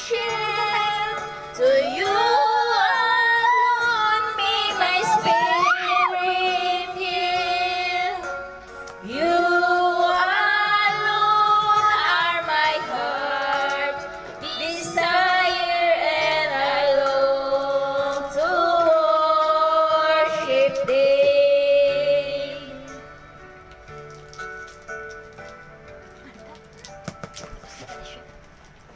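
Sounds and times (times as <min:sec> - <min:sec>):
woman singing slow song: 0:00.0 - 0:23.2
karaoke backing track: 0:00.0 - 0:28.9.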